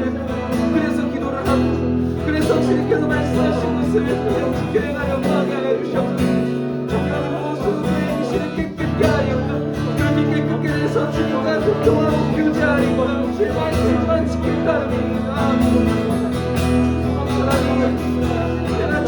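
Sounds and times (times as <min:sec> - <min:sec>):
strummed guitar chords: 0:00.0 - 0:19.0.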